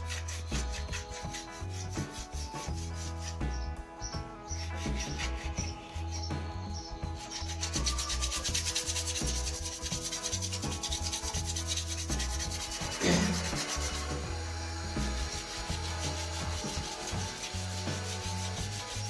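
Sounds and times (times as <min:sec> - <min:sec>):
sandpaper scratching wood: 0:00.0 - 0:03.7, 0:04.5 - 0:06.3, 0:07.1 - 0:19.0.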